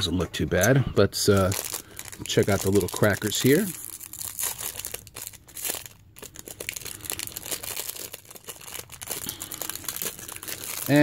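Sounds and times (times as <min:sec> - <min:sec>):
foil wrapper crinkling: 0:01.3 - 0:11.0.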